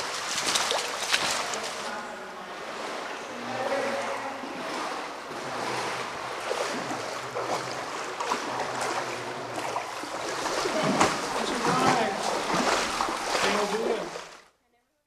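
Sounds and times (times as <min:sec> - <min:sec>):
paddle splashes and knocks: 0:00.0 - 0:14.5
water lapping around boat: 0:00.0 - 0:14.5.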